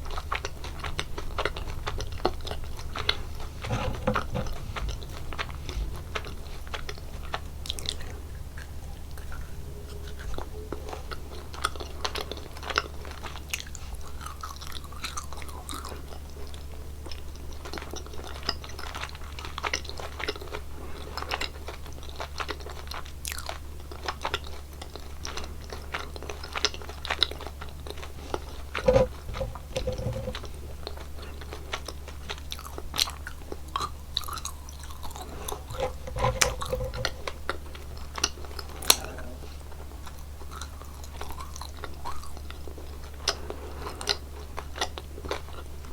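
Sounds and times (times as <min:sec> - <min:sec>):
chewing gummy candies: 0:00.0 - 0:45.9.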